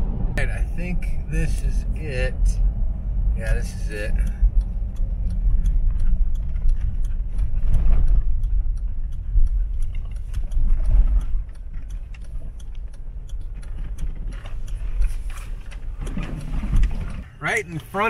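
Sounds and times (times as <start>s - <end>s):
in-cabin driving rumble: 0.0s - 18.0s
light ticks: 0.6s - 18.0s.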